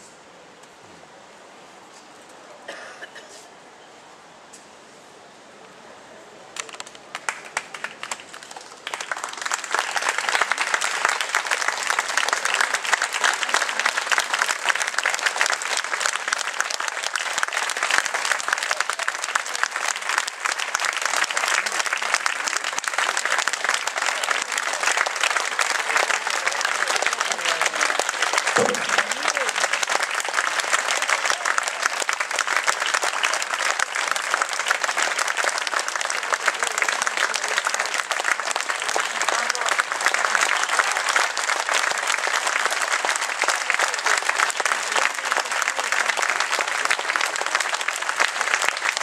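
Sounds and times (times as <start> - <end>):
audience applauding: 6.6 - 49.0.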